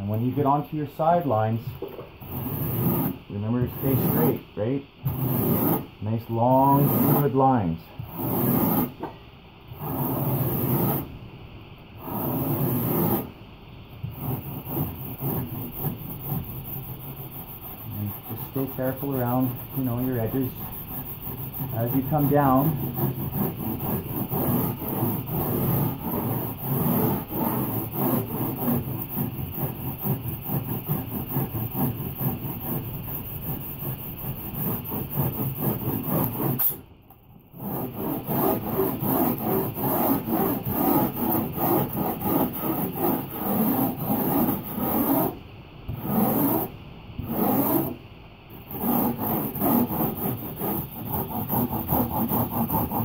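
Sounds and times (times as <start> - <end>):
rasp scraping foam board: 2.2 - 4.4, 5.0 - 7.4, 8.0 - 9.1, 9.7 - 11.1, 12.0 - 13.3, 14.0 - 36.8, 37.5 - 48.0, 48.6 - 53.0.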